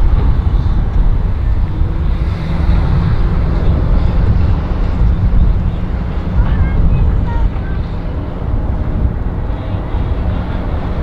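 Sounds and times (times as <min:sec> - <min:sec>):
outboard motors rumbling: 0:00.0 - 0:11.0.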